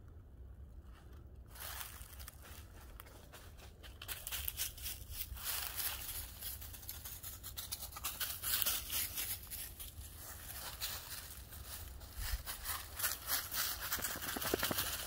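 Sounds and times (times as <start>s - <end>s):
footsteps in dry leaves: 1.5s - 15.0s.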